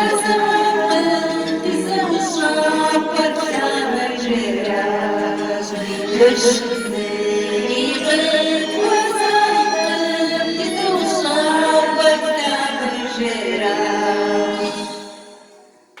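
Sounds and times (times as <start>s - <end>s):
women singing in harmony: 0.0s - 15.6s.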